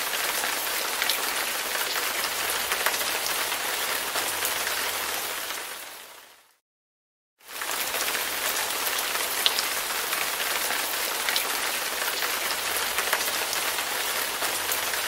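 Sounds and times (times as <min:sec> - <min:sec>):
steady rain falling: 0:00.0 - 0:06.6, 0:07.4 - 0:15.0.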